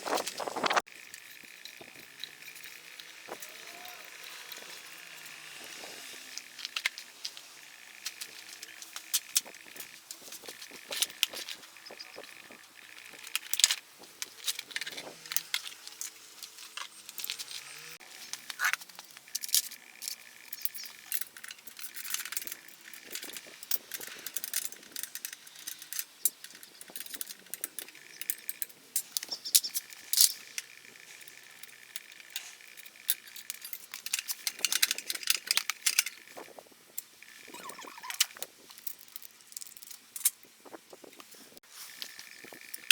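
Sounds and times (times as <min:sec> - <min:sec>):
metal tools clinking: 0:00.9 - 0:36.6.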